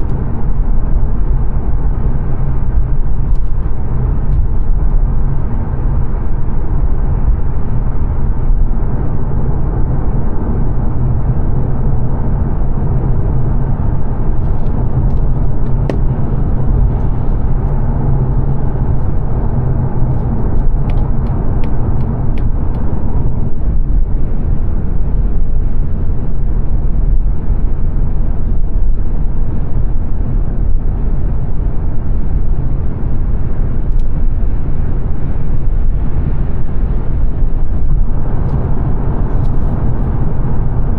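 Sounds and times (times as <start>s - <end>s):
car engine drone: 0.0s - 40.9s
road and tyre noise: 0.0s - 40.9s.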